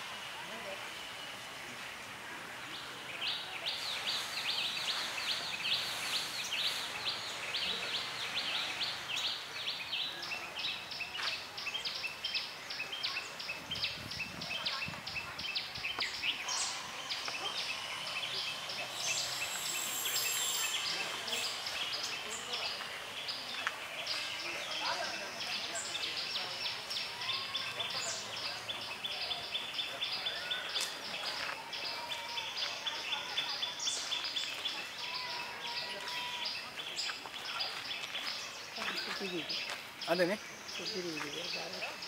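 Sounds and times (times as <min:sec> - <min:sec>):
outdoor background noise: 0:00.0 - 0:42.0.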